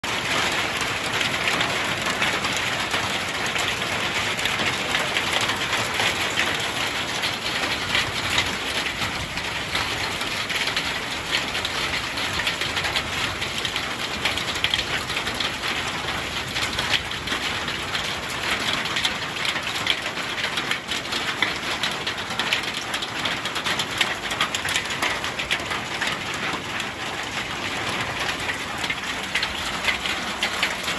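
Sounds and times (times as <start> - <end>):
hail and rain falling: 0.0 - 30.9.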